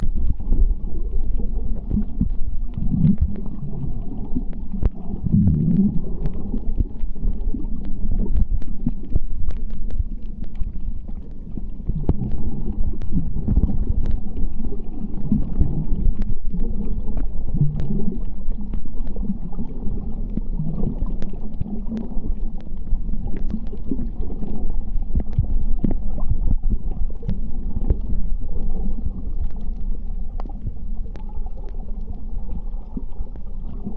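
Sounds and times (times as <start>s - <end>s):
low underwater rumble: 0.0s - 33.9s
sharp underwater clicks: 0.0s - 33.9s
water gurgling swells: 0.0s - 33.9s.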